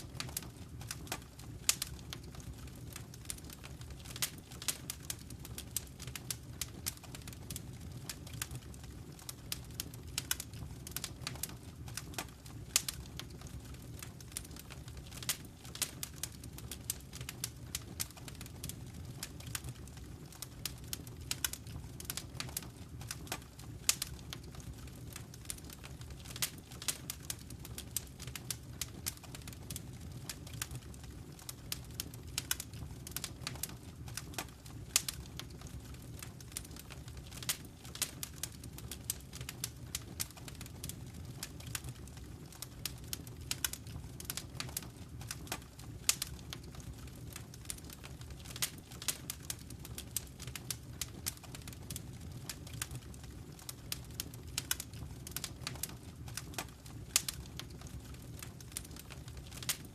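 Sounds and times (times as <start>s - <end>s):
fire popping and snapping: 0.0s - 59.9s
wood fire crackling: 0.0s - 59.9s.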